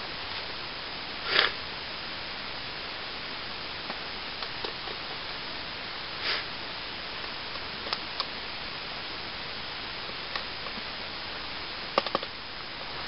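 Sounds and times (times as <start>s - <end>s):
rustle: 0.0s - 13.0s
steady hiss: 0.0s - 13.0s.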